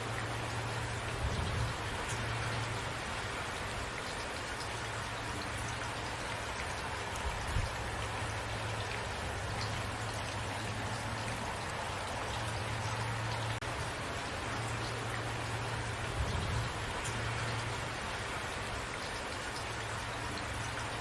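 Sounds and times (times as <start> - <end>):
raindrops ticking: 0.0 - 21.0
steady rain falling: 0.0 - 21.0.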